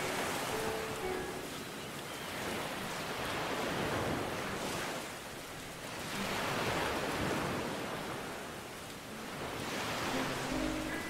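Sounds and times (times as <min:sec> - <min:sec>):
ocean waves rushing: 0:00.0 - 0:11.0.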